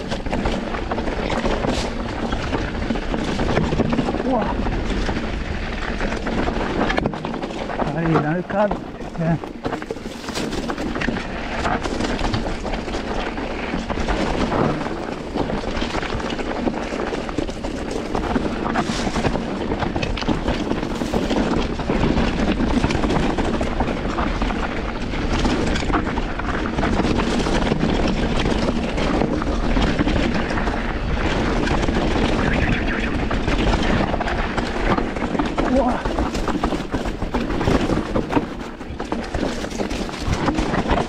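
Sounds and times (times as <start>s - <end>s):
bike rattling and knocking: 0.0s - 41.0s
wind and tyre noise: 0.0s - 41.0s.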